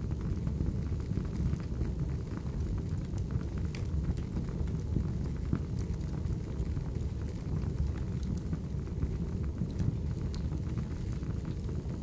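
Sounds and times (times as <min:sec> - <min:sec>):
fire crackling and popping: 0:00.0 - 0:12.0
fire rumbling: 0:00.0 - 0:12.0.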